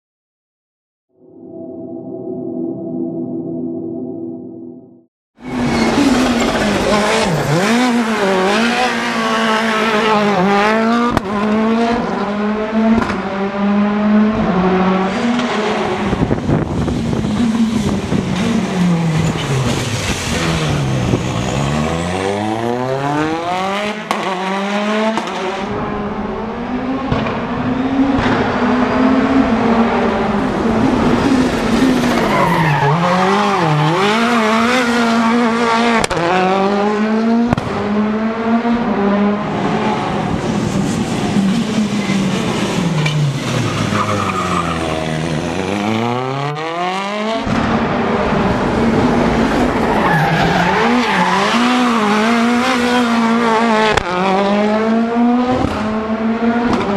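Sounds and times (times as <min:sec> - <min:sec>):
rally car engine revving: 0:05.4 - 0:56.9.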